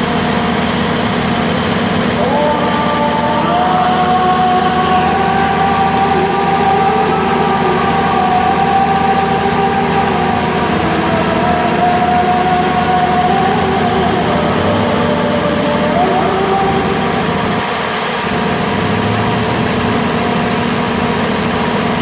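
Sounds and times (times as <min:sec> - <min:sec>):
vehicle engines droning: 0:00.0 - 0:22.0.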